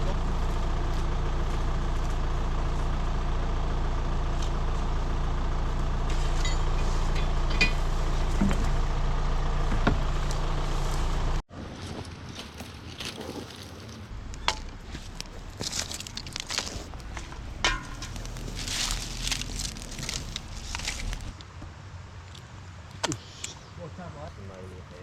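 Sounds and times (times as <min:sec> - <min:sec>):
vehicle engine running: 0:00.0 - 0:11.4, 0:12.4 - 0:21.4
outdoor ambience: 0:00.0 - 0:25.0.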